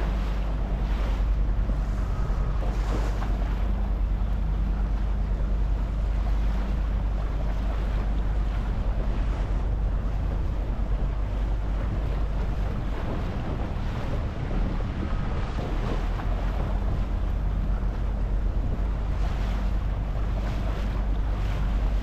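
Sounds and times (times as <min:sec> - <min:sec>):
boat motor running: 0:00.0 - 0:22.0
water washing around hull: 0:00.0 - 0:22.0
wind buffeting microphone: 0:00.0 - 0:22.0.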